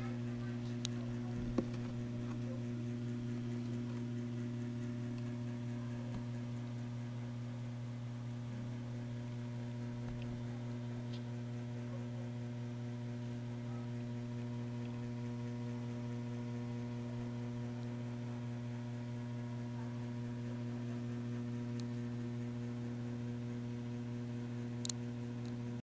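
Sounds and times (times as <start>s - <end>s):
electrical mains hum: 0.0s - 25.8s.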